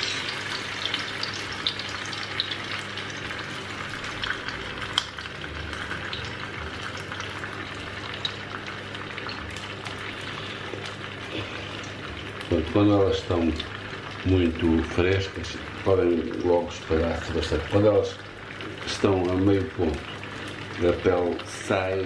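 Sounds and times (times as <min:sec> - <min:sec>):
oil popping and crackling: 0:00.0 - 0:22.0
sausages sizzling in oil: 0:00.0 - 0:22.0.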